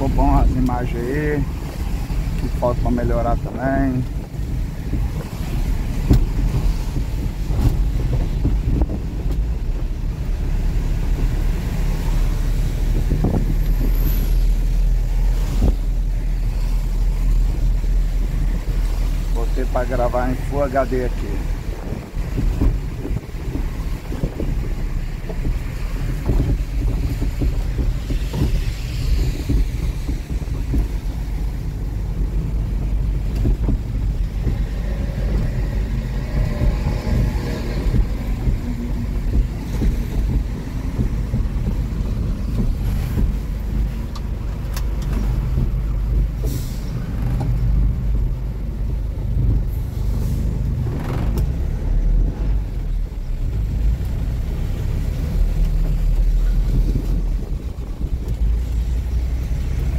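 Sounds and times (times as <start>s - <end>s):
road noise: 0.0s - 59.9s
truck engine rumble: 0.0s - 59.9s.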